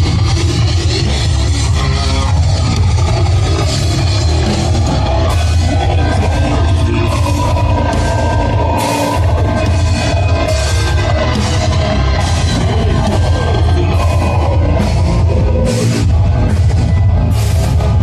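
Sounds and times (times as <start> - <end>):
heavy metal band playing: 0.0 - 18.0.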